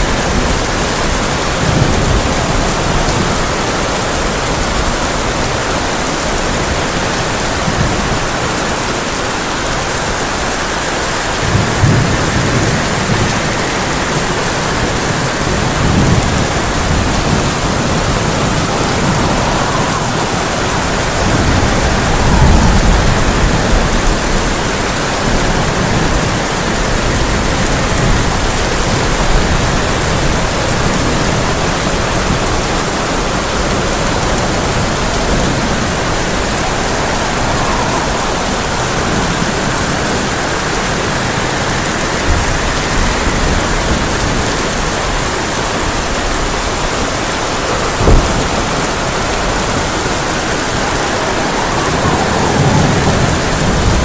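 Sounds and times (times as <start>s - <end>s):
rain on a tin roof: 0.0s - 54.0s
thunder rumbling: 0.0s - 54.0s.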